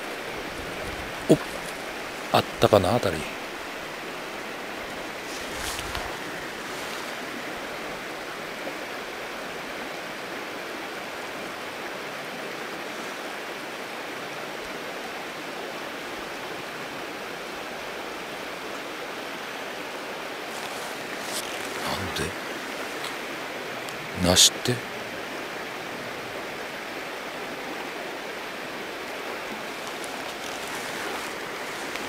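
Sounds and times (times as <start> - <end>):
stream water running over stones: 0.0 - 32.0.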